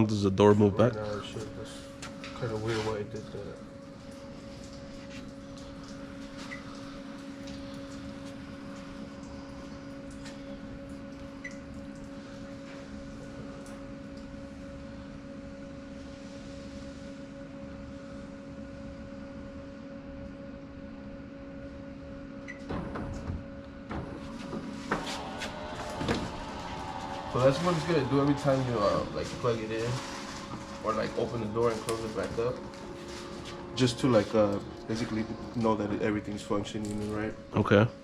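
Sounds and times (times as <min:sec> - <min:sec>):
vending machine motor hum: 0:00.0 - 0:38.0.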